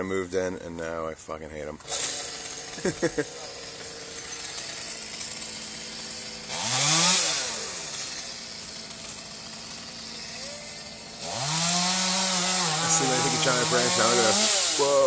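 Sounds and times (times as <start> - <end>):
chainsaw idling and revving: 1.6 - 15.0.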